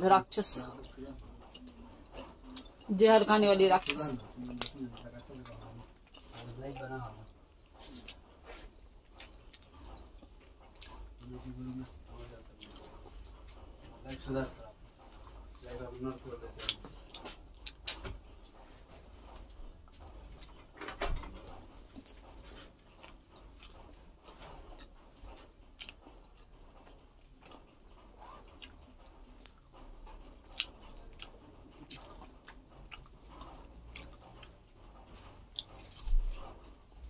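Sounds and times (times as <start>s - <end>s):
person chewing food: 0.6s - 37.0s.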